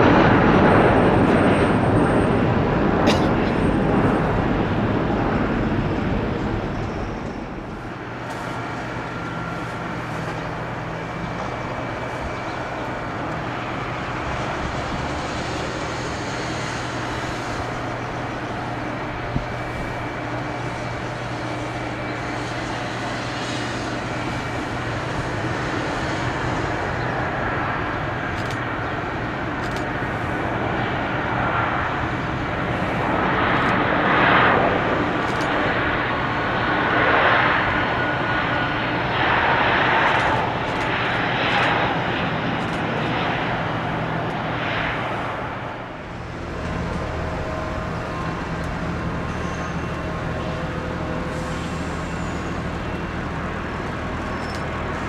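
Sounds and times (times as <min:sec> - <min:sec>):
jet engine hum with high whine: 0:00.0 - 0:55.0
jet engines at take-off power: 0:00.0 - 0:55.0.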